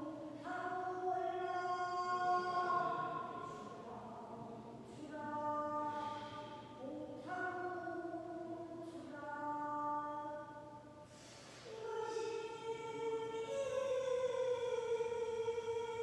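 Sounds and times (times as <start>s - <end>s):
person singing unaccompanied: 0.0s - 10.8s, 11.6s - 16.0s.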